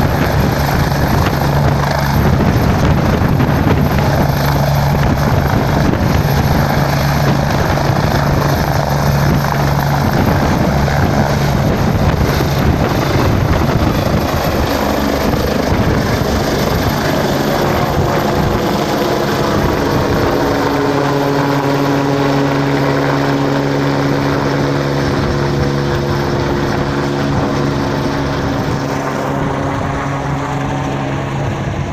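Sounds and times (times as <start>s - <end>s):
helicopter rotor and engine: 0.0s - 31.9s.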